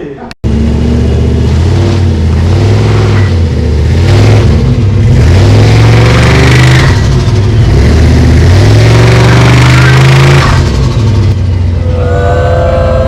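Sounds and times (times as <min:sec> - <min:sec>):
car engine running loudly: 0:00.4 - 0:13.0.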